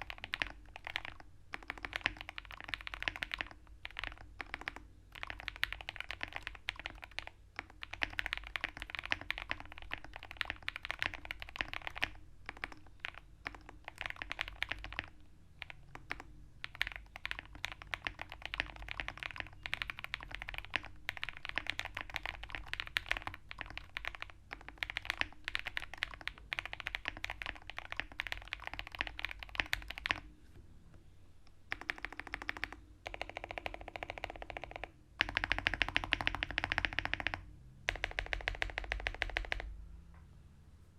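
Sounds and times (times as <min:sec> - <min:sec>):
mechanical keyboard typing: 0:00.0 - 0:30.2, 0:31.7 - 0:39.7.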